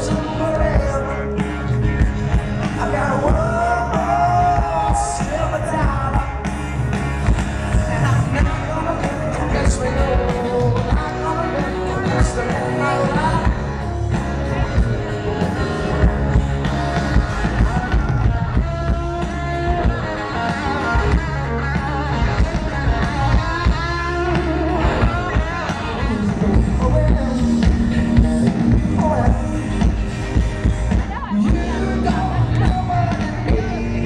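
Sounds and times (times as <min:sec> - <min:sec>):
person singing: 0:00.0 - 0:06.5, 0:07.6 - 0:34.0
live rock band playing: 0:00.0 - 0:34.0.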